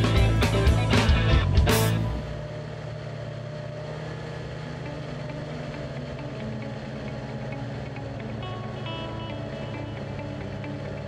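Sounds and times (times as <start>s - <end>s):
snowmobile engine running: 0.0s - 11.0s.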